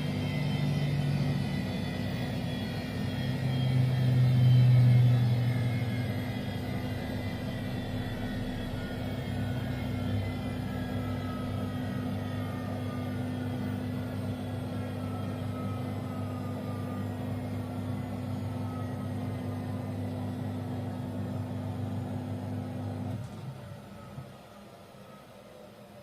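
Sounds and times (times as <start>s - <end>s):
high whine falling in pitch: 0.0s - 23.2s
washing machine motor hum: 0.0s - 26.0s.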